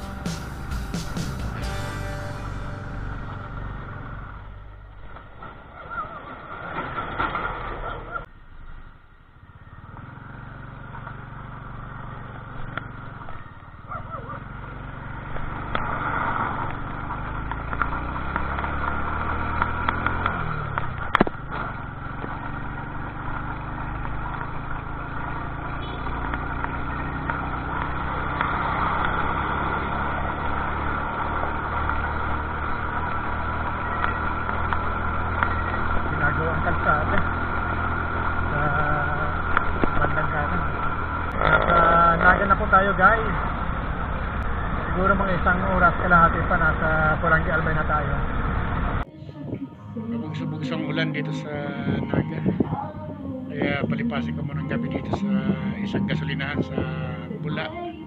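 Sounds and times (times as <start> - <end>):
motorcycle engine running: 0.0 - 8.8, 9.4 - 49.1, 50.2 - 57.8.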